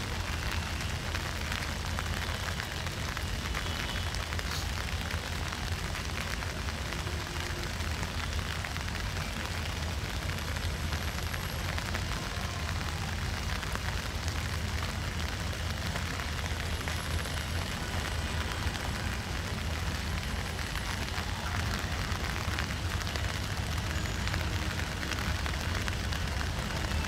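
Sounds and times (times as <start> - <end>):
rain hissing: 0.1 - 27.0.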